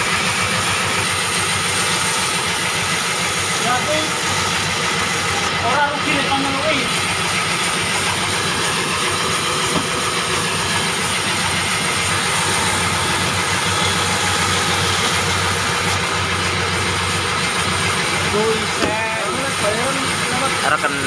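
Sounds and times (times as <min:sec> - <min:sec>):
band saw cutting logs: 0:00.0 - 0:21.0
low machine hum: 0:00.0 - 0:21.0.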